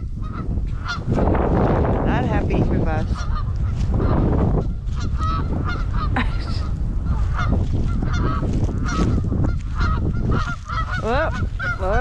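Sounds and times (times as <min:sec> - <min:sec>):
geese honking: 0:00.0 - 0:01.3, 0:02.2 - 0:12.0
low rumble: 0:00.0 - 0:12.0.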